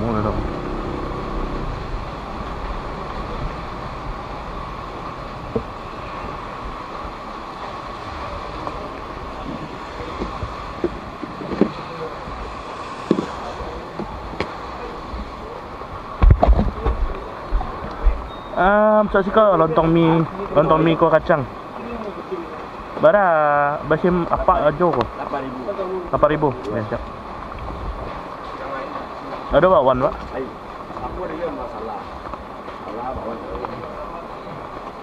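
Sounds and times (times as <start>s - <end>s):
heavy rain on street: 0.0s - 35.0s.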